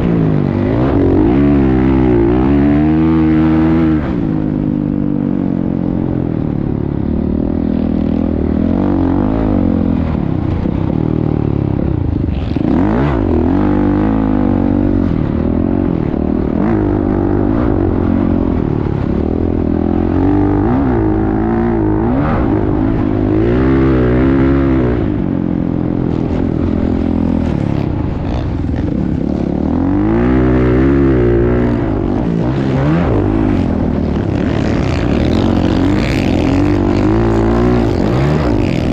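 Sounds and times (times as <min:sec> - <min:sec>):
motocross bike engine revving: 0:00.0 - 0:04.6, 0:12.3 - 0:38.9.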